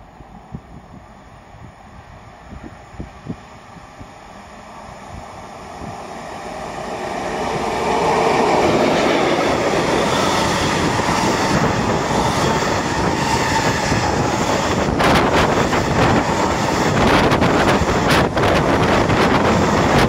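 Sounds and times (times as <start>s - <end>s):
freight train passing: 0.0s - 20.0s
wheels rumbling on rails: 0.0s - 20.0s.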